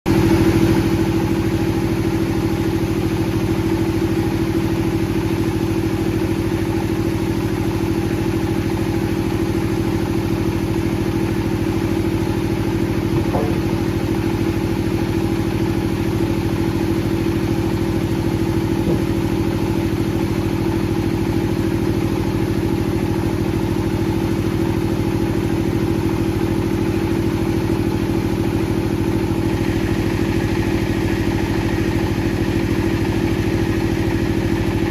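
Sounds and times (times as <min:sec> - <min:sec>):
wood-processing machinery humming: 0:00.1 - 0:34.9.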